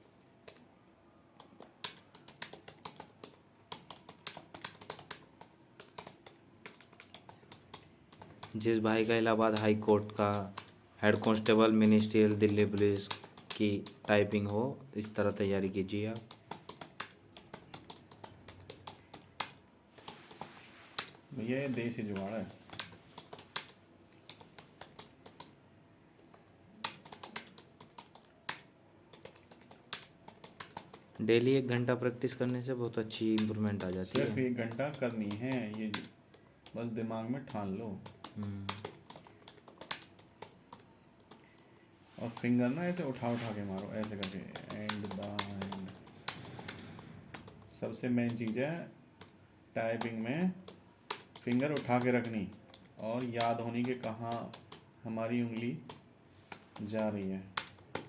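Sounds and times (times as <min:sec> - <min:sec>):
keyboard keys clicking: 0:01.4 - 0:19.6, 0:26.8 - 0:36.8, 0:37.4 - 0:41.4, 0:42.4 - 0:48.6, 0:50.0 - 0:58.0.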